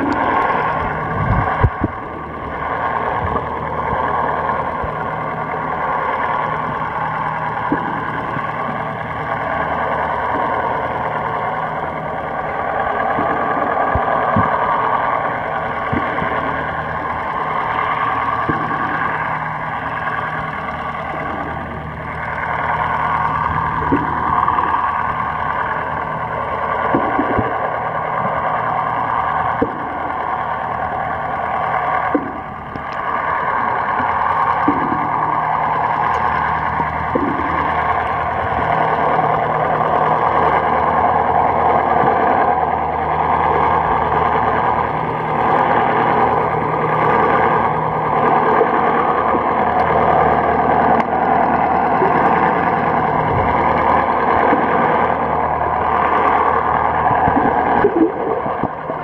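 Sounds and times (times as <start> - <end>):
boat engine hum underwater: 0.0 - 59.0
wash of moving water: 0.0 - 59.0.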